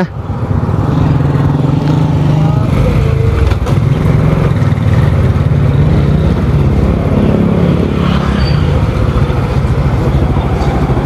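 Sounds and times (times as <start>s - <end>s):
motorcycle engine running: 0.3s - 11.0s.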